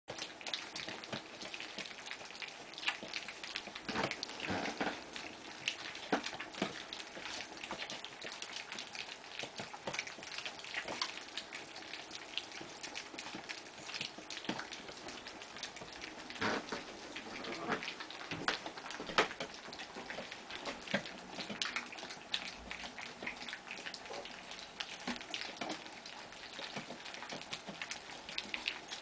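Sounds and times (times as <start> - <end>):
puppies eating from metal bowls: 0.1 - 29.0.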